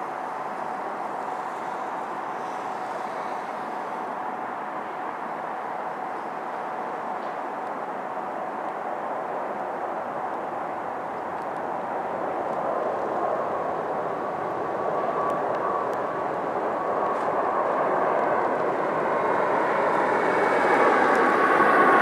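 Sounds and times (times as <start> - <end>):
faint engine whine: 0.0 - 22.0
jet engine roar: 0.0 - 22.0.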